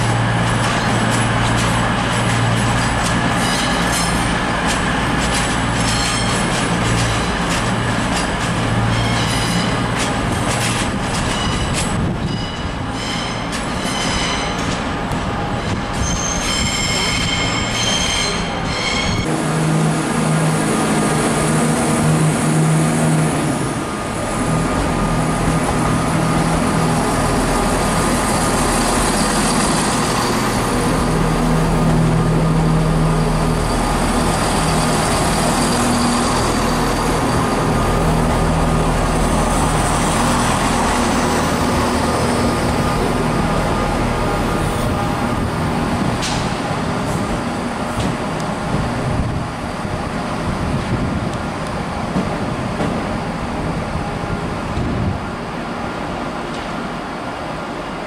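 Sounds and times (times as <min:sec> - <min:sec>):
train drone with low rumble: 0:00.0 - 0:58.0.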